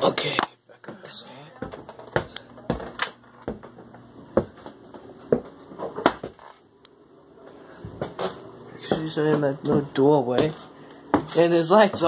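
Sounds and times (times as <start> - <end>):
footsteps on wooden stairs: 0.9 - 6.4, 7.8 - 12.0.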